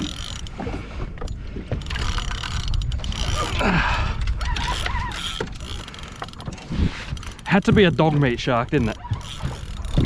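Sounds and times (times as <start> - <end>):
fishing reel clicking: 0.0 - 0.5, 1.2 - 3.6, 4.2 - 10.0.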